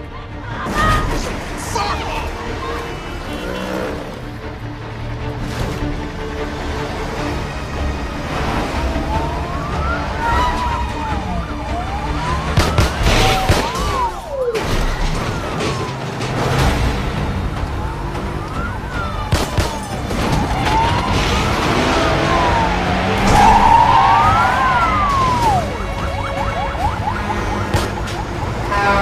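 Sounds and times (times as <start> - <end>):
car engines rumbling: 0.0 - 29.0
police sirens wailing: 0.0 - 29.0.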